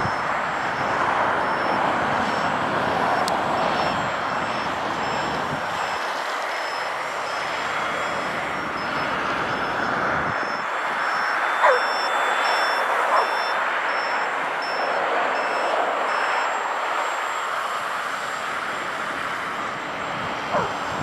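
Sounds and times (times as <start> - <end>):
high-pitched electronic beep: 0.0 - 2.5, 3.1 - 17.5.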